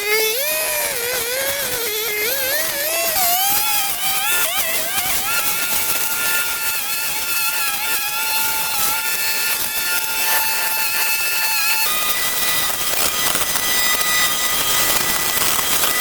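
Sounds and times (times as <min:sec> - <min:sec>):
small engine at high revs: 0:00.0 - 0:16.0.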